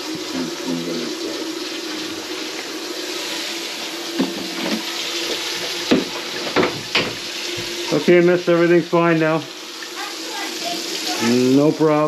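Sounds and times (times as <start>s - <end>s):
faucet water draining in sink: 0.0s - 12.0s.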